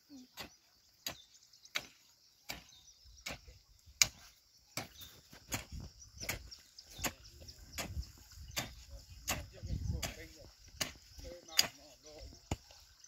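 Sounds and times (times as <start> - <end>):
hoe chopping into soil: 0.4 - 12.7.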